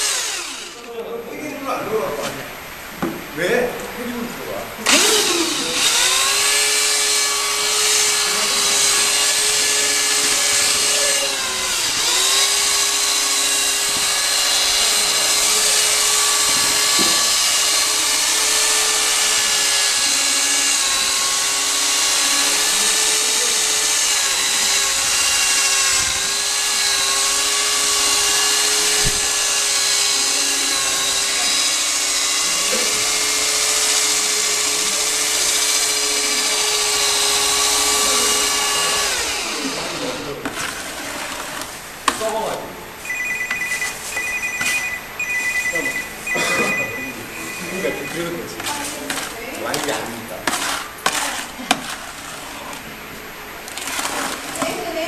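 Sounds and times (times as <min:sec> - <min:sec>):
electric drill mixing plaster: 0:00.0 - 0:55.0.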